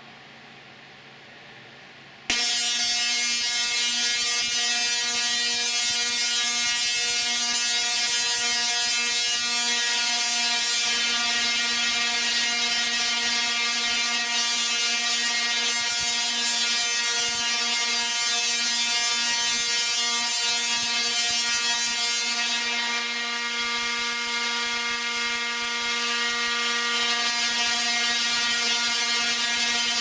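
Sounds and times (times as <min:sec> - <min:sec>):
singing tesla coil buzzing: 0:02.3 - 0:30.0.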